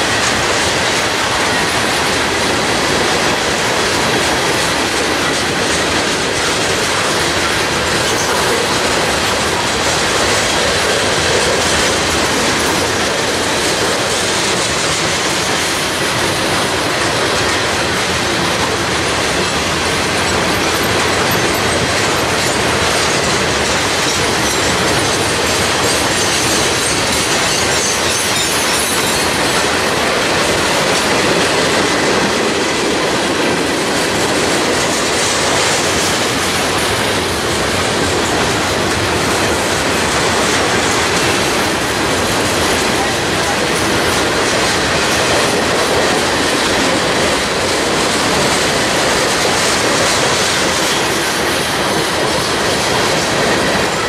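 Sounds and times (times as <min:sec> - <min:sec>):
train wheels rolling over rails: 0:00.0 - 0:54.0.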